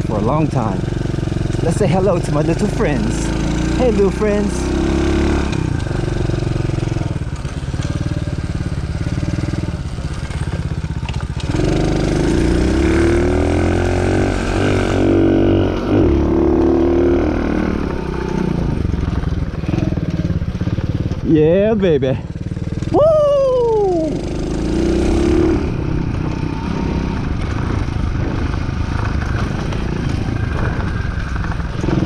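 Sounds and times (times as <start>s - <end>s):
small motorbike engine revving: 0.5s - 21.7s, 23.8s - 32.0s.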